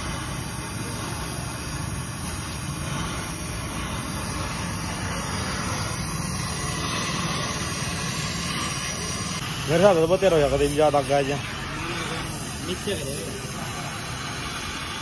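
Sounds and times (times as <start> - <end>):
welding torch hissing: 0.0 - 15.0.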